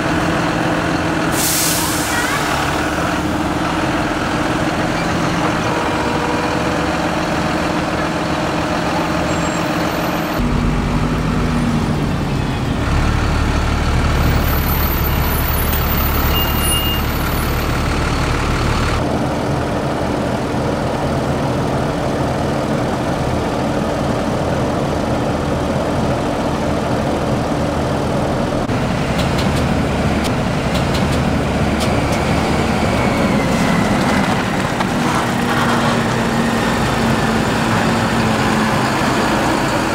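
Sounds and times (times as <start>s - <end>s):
tractor diesel engines running: 0.0s - 39.9s.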